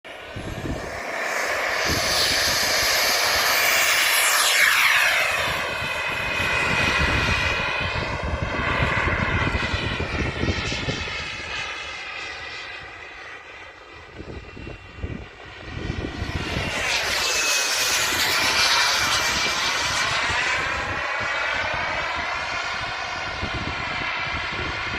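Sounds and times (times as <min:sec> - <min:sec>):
model jet engine whining: 0:00.1 - 0:24.9.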